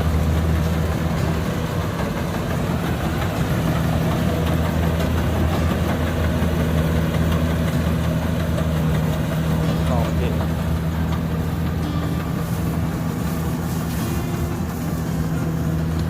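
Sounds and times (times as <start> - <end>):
diesel engine humming: 0.0 - 16.0.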